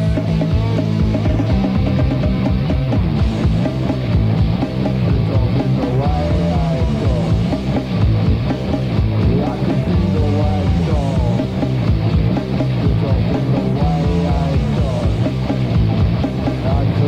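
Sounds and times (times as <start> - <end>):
punk rock band playing: 0.0 - 17.0.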